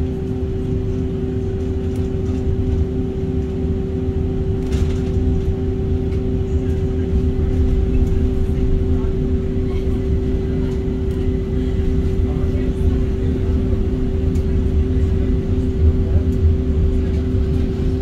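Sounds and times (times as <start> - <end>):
tram rumbling and humming: 0.0 - 18.0.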